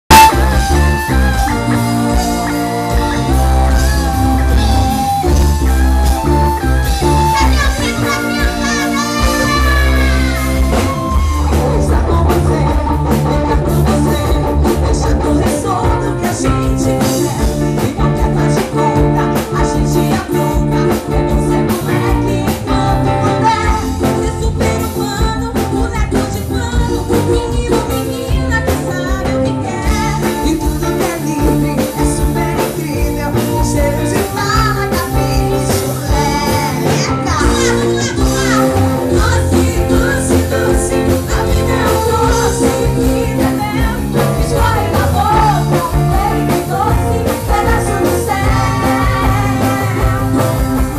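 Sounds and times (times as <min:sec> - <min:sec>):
live band playing through speakers: 0:00.0 - 0:50.9
people singing into microphones: 0:00.1 - 0:50.9.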